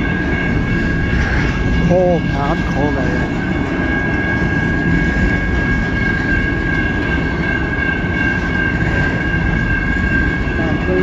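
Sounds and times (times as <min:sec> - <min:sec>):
high ringing tone: 0:00.0 - 0:11.0
train wheels rumbling on rails: 0:00.0 - 0:11.0.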